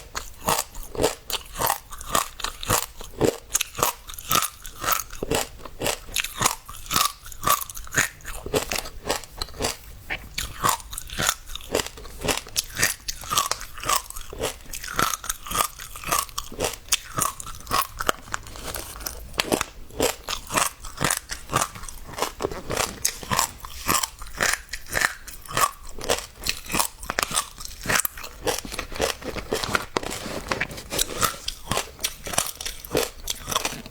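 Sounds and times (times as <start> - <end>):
seeds crunching while chewed: 0.0 - 33.9.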